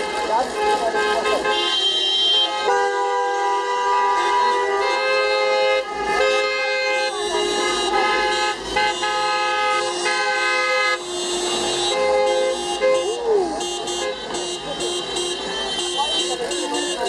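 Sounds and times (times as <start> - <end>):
car horns honking: 0.0 - 17.0.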